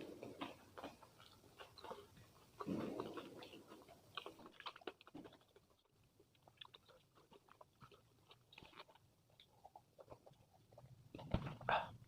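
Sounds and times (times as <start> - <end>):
person chewing: 0.0 - 11.3.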